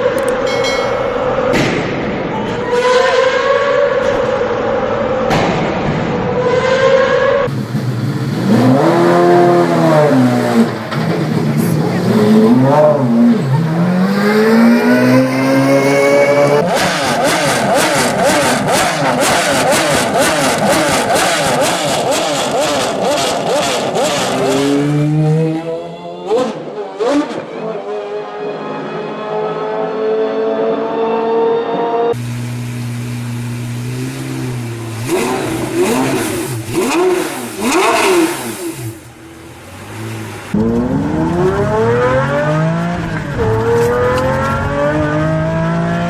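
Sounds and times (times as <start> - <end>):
car engine revving: 3.4 - 27.7, 32.2 - 46.0.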